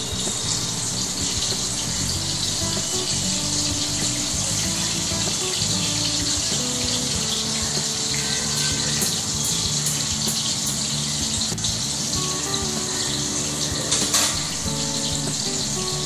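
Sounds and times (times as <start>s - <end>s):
chicken sizzling in oil: 0.0s - 16.0s
soft background music: 0.0s - 16.0s.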